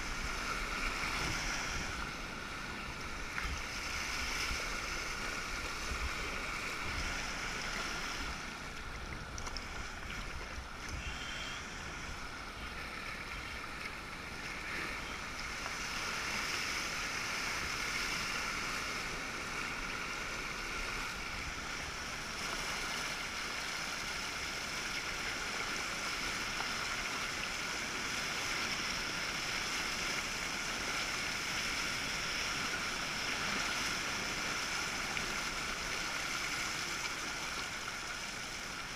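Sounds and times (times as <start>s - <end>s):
water rushing around kayak: 0.0s - 38.9s.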